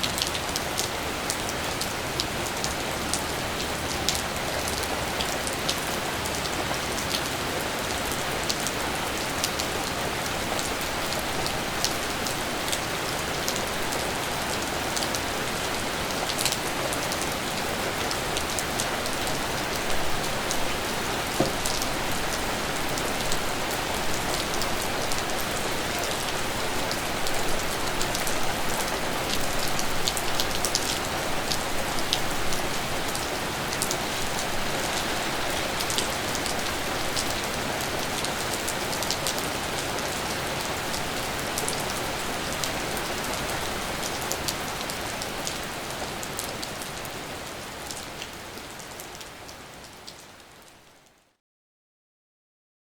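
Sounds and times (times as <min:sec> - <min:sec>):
rain falling: 0:00.0 - 0:51.2.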